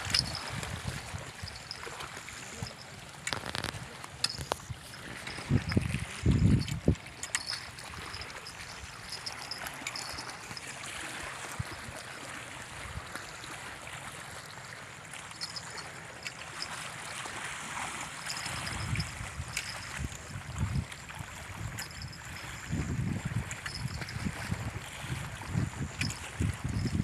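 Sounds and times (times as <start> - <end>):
flowing water hiss: 0.0 - 22.8.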